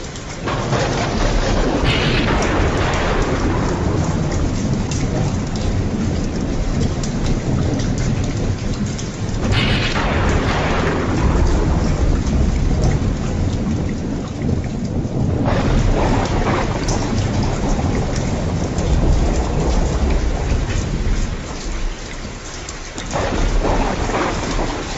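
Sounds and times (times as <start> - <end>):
heavy rain: 0.0 - 24.9
thunder rumbling: 0.0 - 24.9
sharp thunder burst: 0.4 - 22.0, 23.1 - 24.9.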